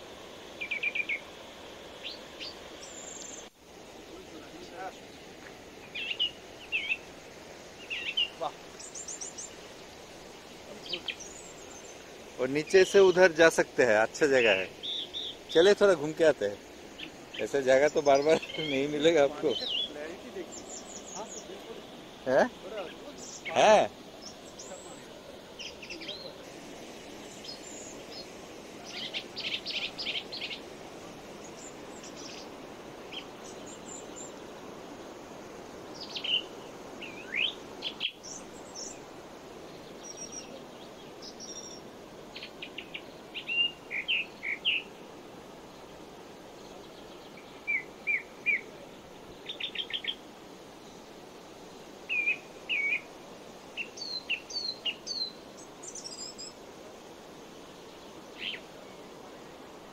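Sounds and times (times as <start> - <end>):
birds chirping and trilling: 0.0 - 59.9
low background hiss: 0.0 - 59.9.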